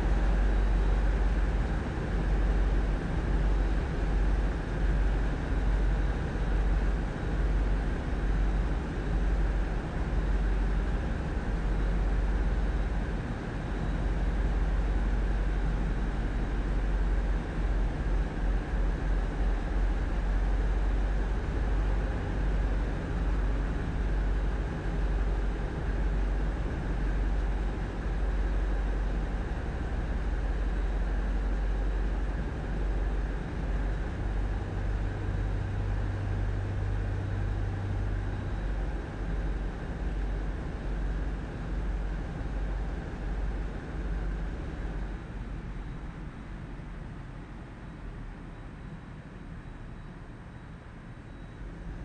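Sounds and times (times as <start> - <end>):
diesel engines droning: 0.0 - 52.0
low hum: 0.0 - 52.0.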